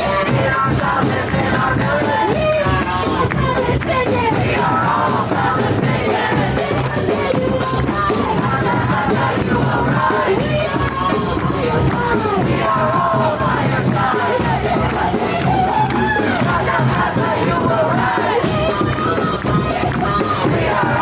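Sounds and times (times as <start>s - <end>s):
many voices chanting together: 0.0s - 21.0s
shaken rattling percussion: 0.0s - 21.0s.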